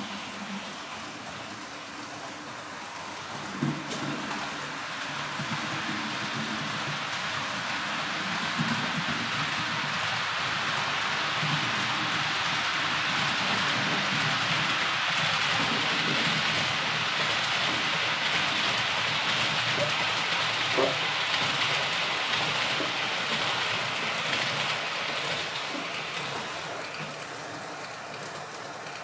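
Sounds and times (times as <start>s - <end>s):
model train rolling on track: 0.0s - 29.0s.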